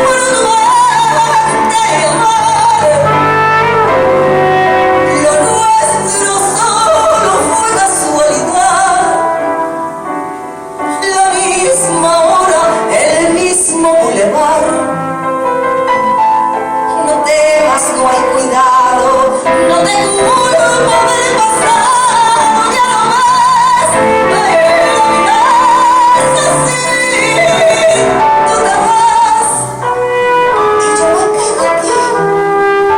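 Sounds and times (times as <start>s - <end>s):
woman singing with vibrato: 0.0s - 9.7s, 10.9s - 15.1s, 16.8s - 32.9s
piano accompaniment: 0.0s - 32.9s.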